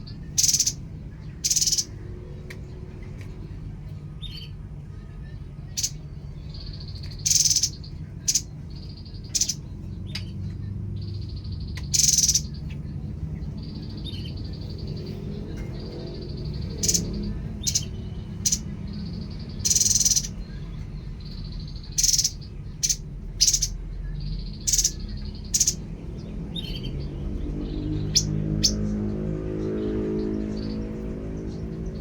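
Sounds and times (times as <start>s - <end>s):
bird calls: 0.0s - 32.0s.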